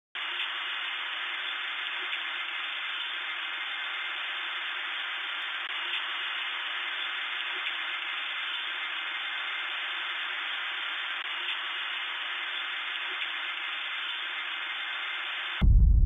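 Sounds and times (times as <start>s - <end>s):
tv static hiss: 0.2s - 15.6s.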